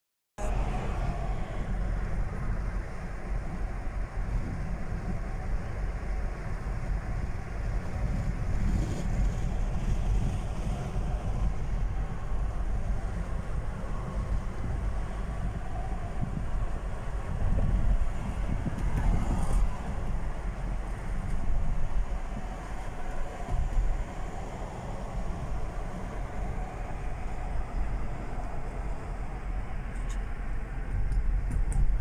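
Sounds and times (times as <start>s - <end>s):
car road and engine rumble: 0.4s - 32.0s.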